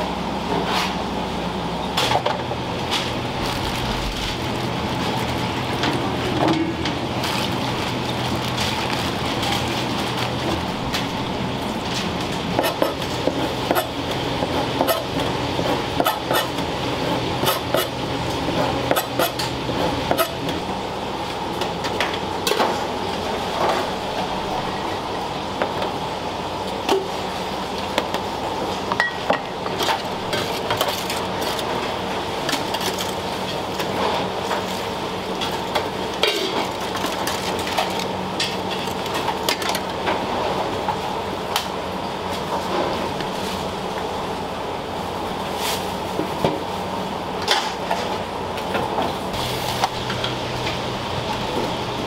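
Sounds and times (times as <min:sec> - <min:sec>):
steady hiss and hum: 0:00.0 - 0:52.0.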